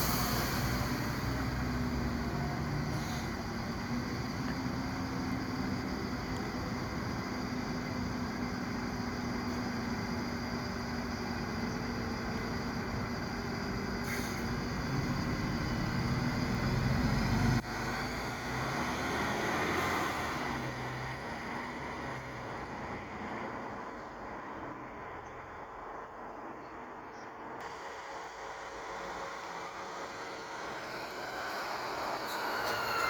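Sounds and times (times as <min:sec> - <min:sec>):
bus engine hum: 0:00.0 - 0:33.0
road noise: 0:00.0 - 0:33.0.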